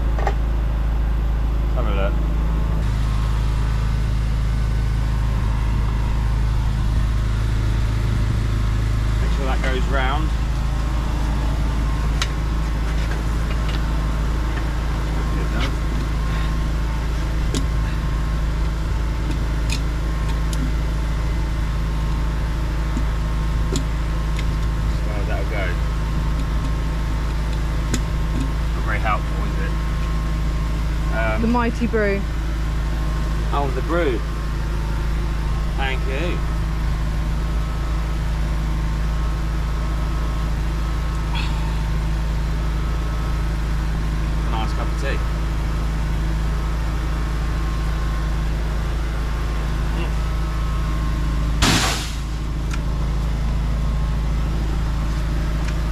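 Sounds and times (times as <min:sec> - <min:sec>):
engine idling: 0:00.0 - 0:55.9
motor droning: 0:00.0 - 0:55.9.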